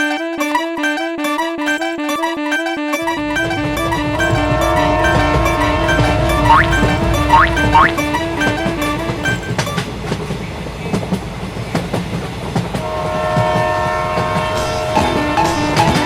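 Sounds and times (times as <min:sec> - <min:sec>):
train horn chord: 0:00.0 - 0:09.9, 0:12.8 - 0:16.0
train rumble: 0:03.0 - 0:16.0.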